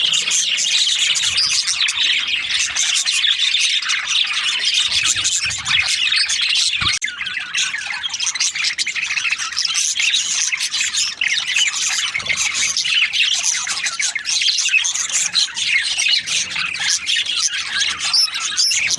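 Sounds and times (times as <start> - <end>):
budgerigars chattering: 0.0 - 18.9.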